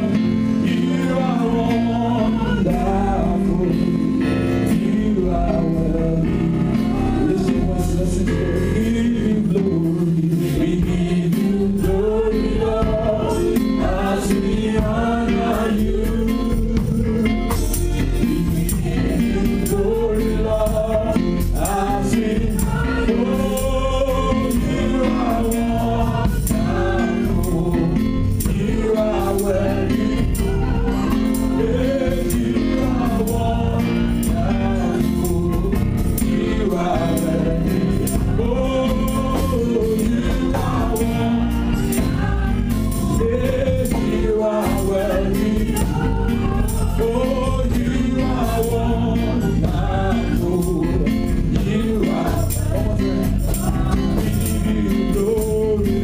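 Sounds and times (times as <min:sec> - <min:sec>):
band with drum kit: 0:00.0 - 0:56.0
congregation singing along: 0:00.0 - 0:56.0
person singing into a microphone: 0:00.0 - 0:56.0.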